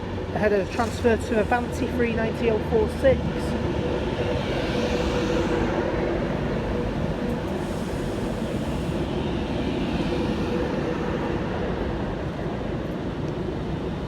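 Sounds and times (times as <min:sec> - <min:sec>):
electric train rumble and hum: 0:00.0 - 0:14.0.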